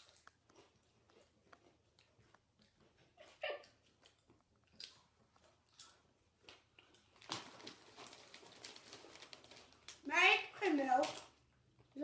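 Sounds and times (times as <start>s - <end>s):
chewing tortilla chips: 0.0s - 10.1s.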